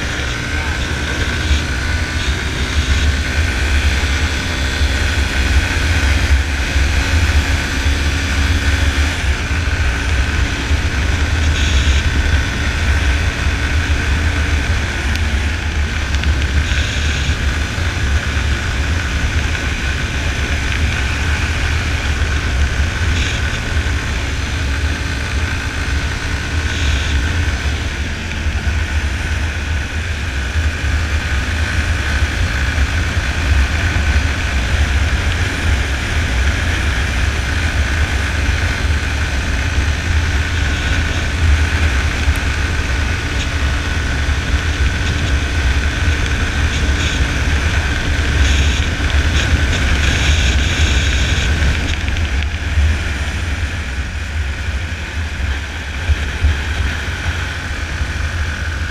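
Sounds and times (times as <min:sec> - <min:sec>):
motorcycle engine running: 0:00.0 - 0:58.9
wind rumble on microphone: 0:00.0 - 0:58.9.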